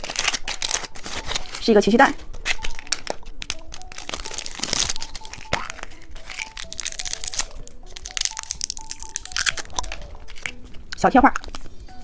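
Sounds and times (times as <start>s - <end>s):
light background music: 0.0s - 12.0s
wrapper crinkling and crackling: 0.0s - 12.0s.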